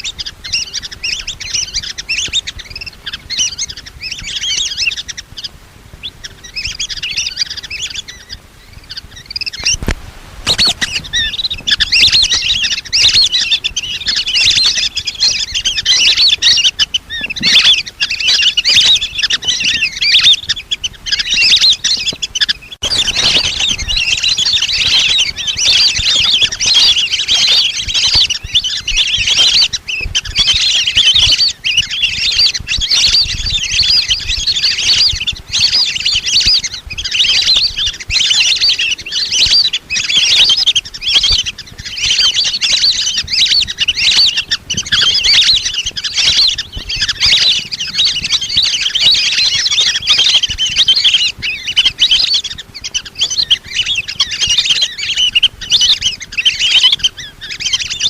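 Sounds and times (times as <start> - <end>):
ducks whistling calls: 0.0 - 58.0.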